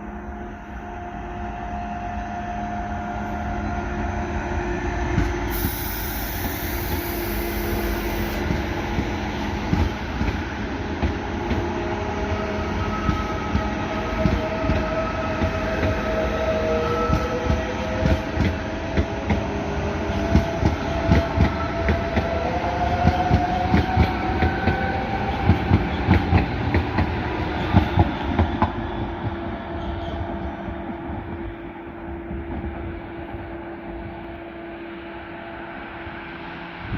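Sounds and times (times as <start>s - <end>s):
train rumbling: 0.0s - 36.9s.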